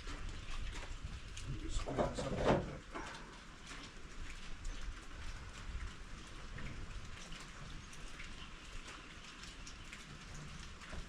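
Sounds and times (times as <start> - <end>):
rain drops ticking: 0.0 - 11.0.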